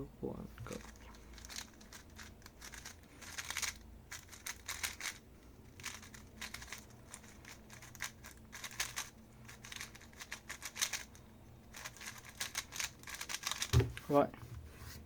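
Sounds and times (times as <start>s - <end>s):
puzzle cube clicking turns: 0.7s - 13.9s.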